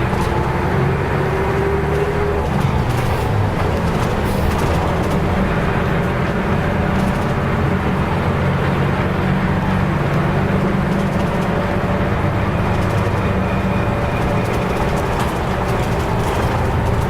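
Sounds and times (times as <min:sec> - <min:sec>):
bus diesel engine running: 0:00.0 - 0:17.0
road noise: 0:00.0 - 0:17.0.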